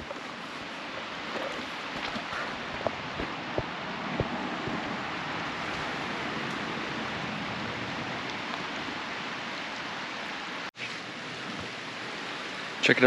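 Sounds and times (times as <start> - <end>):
creek flowing: 0.0 - 13.0.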